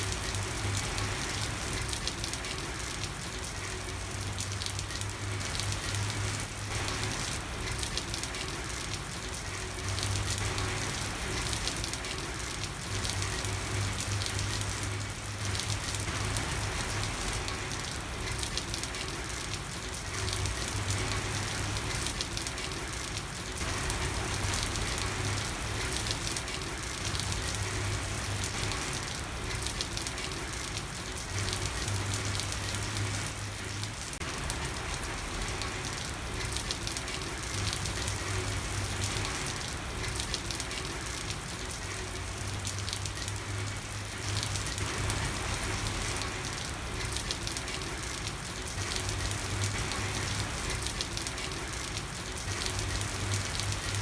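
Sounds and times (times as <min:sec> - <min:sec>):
rain falling on street: 0:00.0 - 0:54.0.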